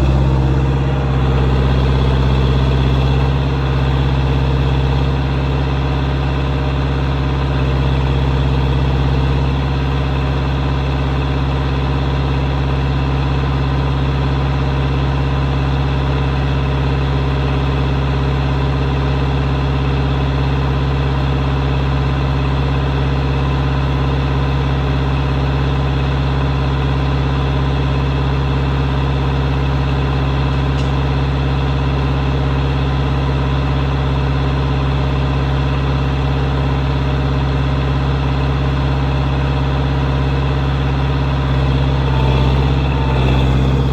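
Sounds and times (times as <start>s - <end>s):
wheel loader engine idling: 0.0s - 43.9s.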